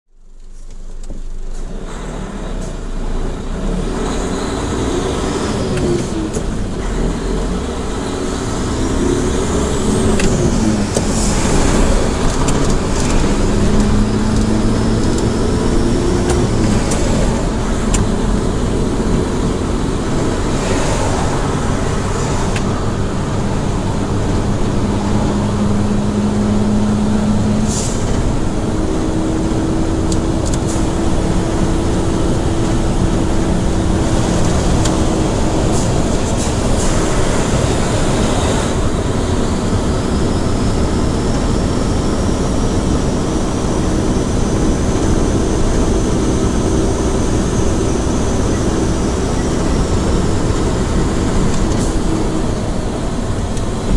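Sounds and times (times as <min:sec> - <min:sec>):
road and tyre noise: 0:00.1 - 0:53.9
diesel truck engine humming: 0:00.2 - 0:53.9.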